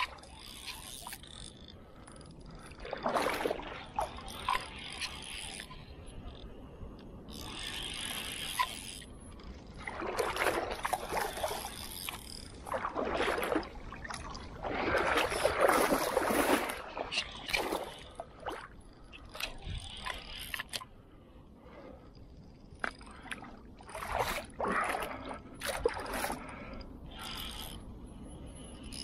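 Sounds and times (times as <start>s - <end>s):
water splashing and sloshing: 0.0s - 29.0s.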